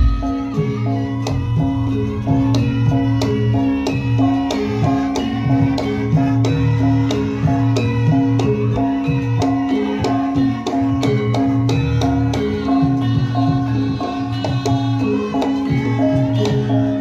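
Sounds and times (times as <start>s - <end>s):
hand drum strokes: 0.0s - 17.0s
held pitched melody notes: 0.0s - 17.0s.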